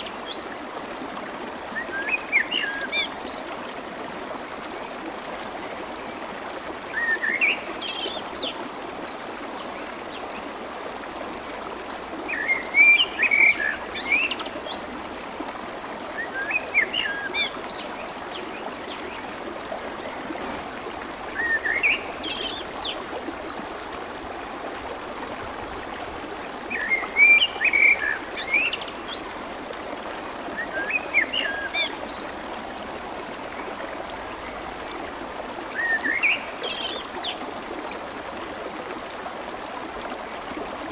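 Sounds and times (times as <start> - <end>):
water babbling: 0.0 - 40.9.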